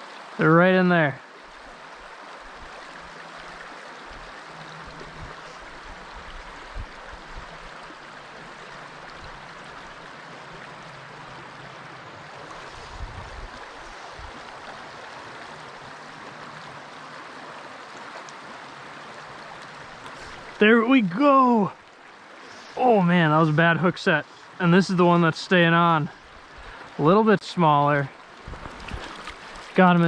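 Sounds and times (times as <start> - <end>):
stream riffles running: 0.4 - 30.0.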